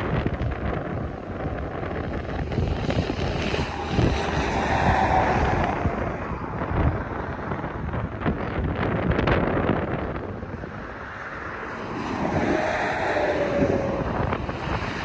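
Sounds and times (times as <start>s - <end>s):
distant freight train rumble: 0.0s - 15.0s
wind buffeting the microphone: 0.0s - 15.0s.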